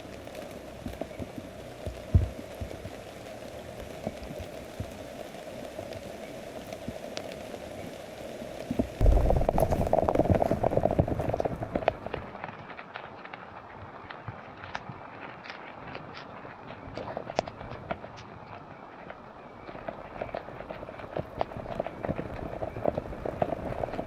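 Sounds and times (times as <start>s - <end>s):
raindrops tapping: 0.0s - 24.0s
steady rain falling: 0.0s - 24.0s.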